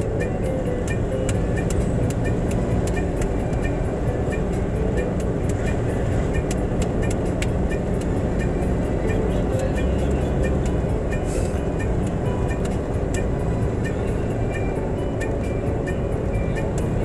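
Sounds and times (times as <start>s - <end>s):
vehicle engine and tyre rumble: 0.0s - 17.0s.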